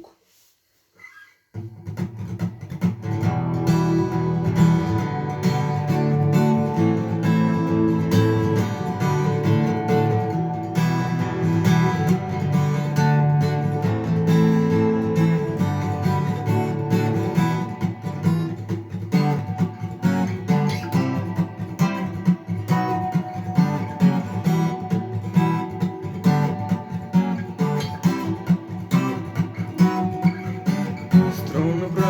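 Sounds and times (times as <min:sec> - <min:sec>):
acoustic guitar strumming: 0:01.6 - 0:32.0.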